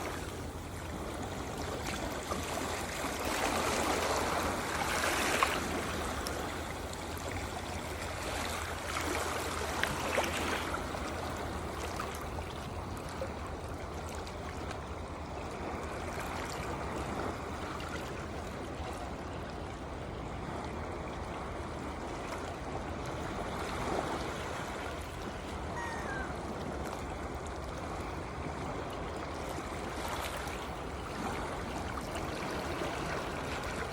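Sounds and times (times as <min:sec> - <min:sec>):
sea waves washing and splashing: 0:00.0 - 0:33.9.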